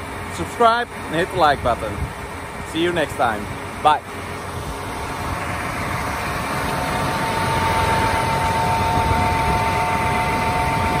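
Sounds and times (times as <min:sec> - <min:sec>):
diesel engine idling: 0:00.0 - 0:11.0
steady whine: 0:00.0 - 0:11.0.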